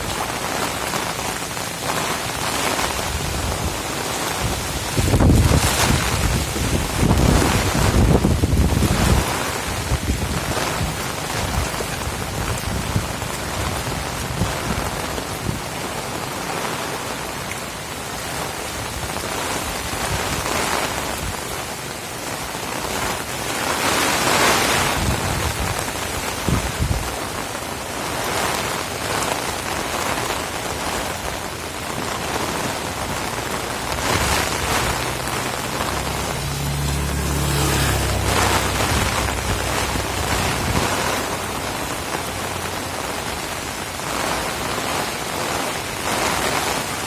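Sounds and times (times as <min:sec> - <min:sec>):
wind rumbling gusts: 0:00.0 - 0:17.0, 0:22.6 - 0:27.6, 0:29.4 - 0:47.0
heavy rain pouring: 0:00.0 - 0:47.0.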